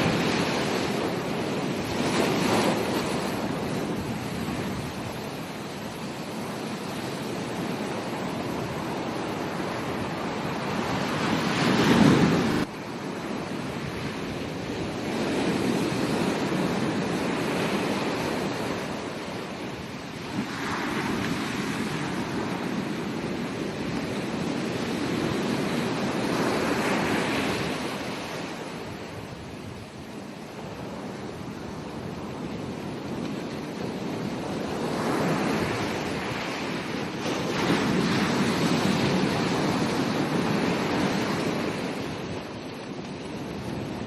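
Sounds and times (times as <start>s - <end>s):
ocean waves breaking on beach: 0.0s - 44.0s.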